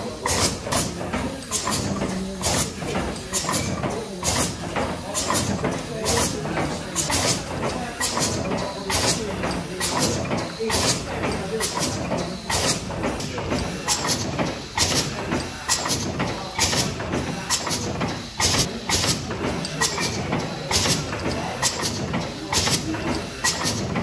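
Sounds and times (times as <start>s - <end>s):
steam engine clicks and hisses: 0.0s - 24.0s.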